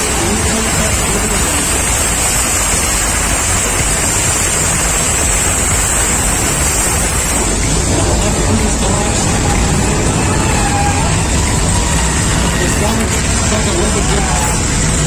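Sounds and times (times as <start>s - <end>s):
loud rumble with hiss: 0.0s - 15.0s.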